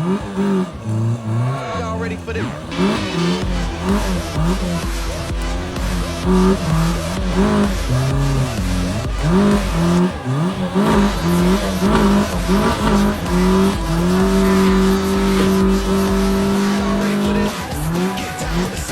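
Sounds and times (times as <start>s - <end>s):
electronic dance music: 1.5s - 18.9s.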